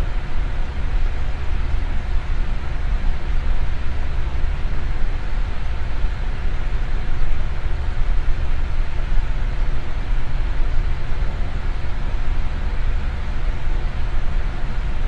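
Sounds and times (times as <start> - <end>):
electric fan whooshing: 0.0 - 15.0
fan motor hum: 0.0 - 15.0.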